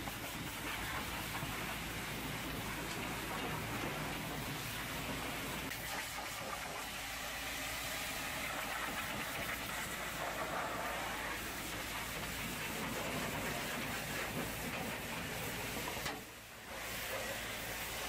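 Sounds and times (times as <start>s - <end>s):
pressure washer spraying metal: 0.0s - 18.0s.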